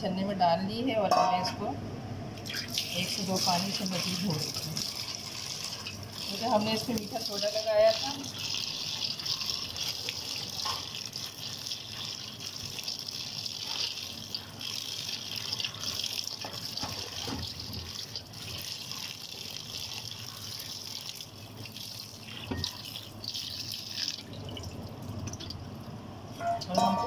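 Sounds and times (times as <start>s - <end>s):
tap water running: 2.4s - 27.0s.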